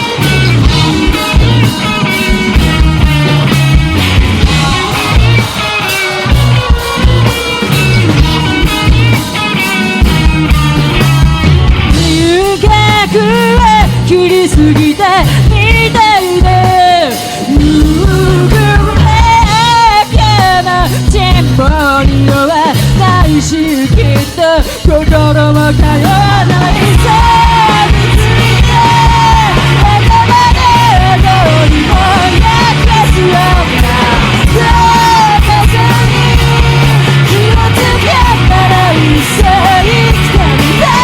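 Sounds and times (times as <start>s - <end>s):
bending lead guitar melody: 0.0s - 41.0s
live rock band playing: 0.0s - 41.0s.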